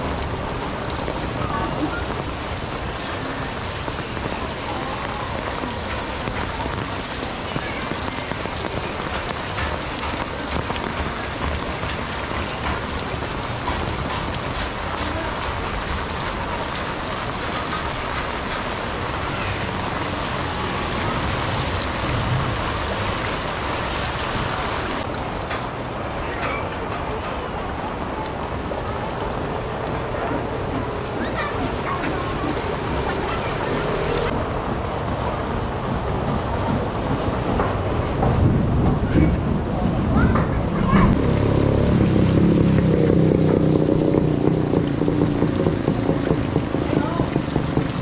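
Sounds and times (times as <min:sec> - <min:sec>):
torrential rain on wet street: 0:00.0 - 0:48.0.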